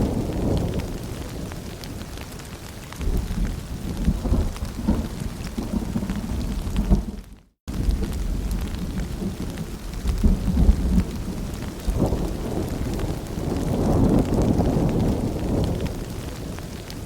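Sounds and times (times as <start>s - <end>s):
rolling thunder: 0.0s - 1.8s, 3.0s - 16.8s
steady rain: 0.0s - 17.0s.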